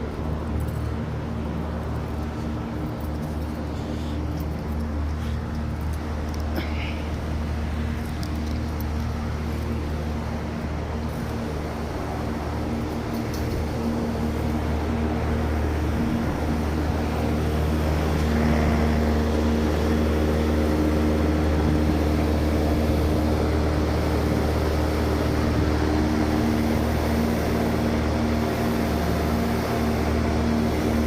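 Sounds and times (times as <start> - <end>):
air conditioning unit humming: 0.0 - 31.0.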